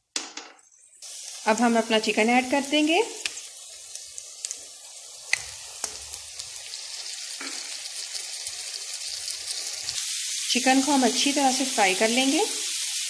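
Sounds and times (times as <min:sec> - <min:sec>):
hot oil sizzling in a pan: 0:00.7 - 0:13.0.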